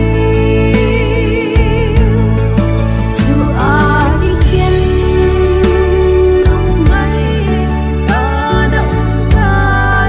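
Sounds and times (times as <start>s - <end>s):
gospel backing track: 0.0s - 10.0s.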